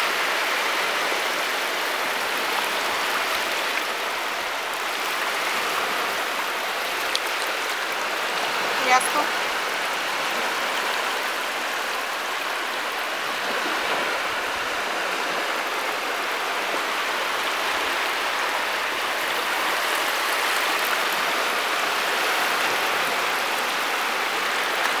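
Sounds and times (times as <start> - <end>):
surf washing over sand: 0.0 - 25.0.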